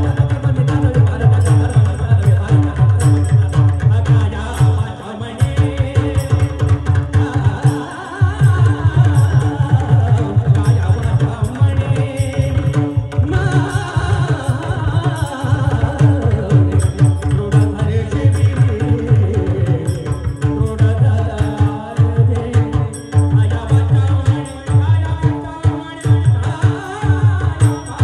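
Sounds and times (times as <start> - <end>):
devotional singing: 0.0 - 28.0.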